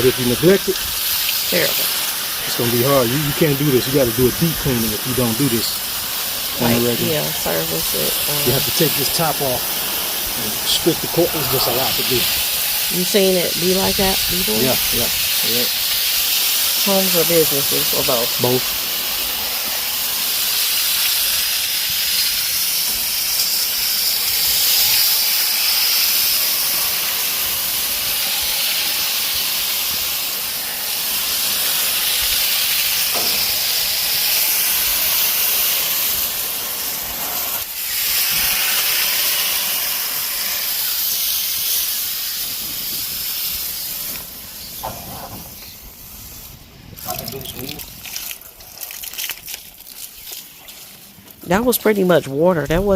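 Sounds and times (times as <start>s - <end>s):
pressure washer spray hissing: 0.0s - 48.4s.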